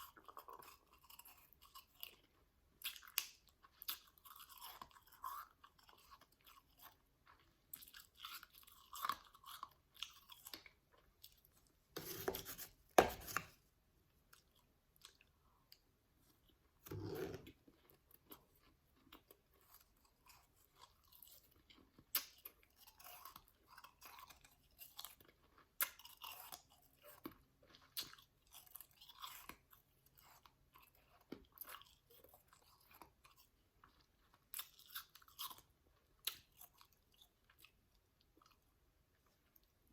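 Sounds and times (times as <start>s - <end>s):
person chewing ice: 0.0s - 13.5s, 14.3s - 39.8s.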